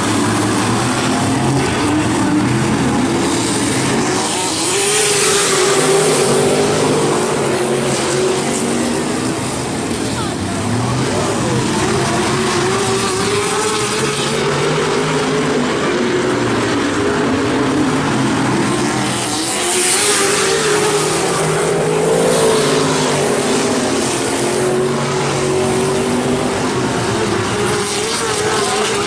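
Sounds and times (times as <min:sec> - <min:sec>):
racing truck engines: 0:00.0 - 0:29.0.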